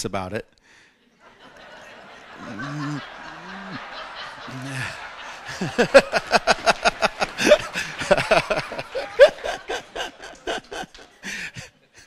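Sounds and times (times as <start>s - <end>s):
man laughing into microphone: 1.5s - 12.0s.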